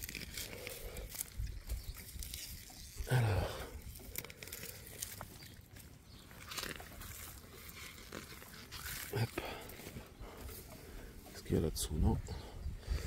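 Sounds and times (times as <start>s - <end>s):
leaves rustling: 0.0s - 11.6s
earth crunching: 0.0s - 13.0s.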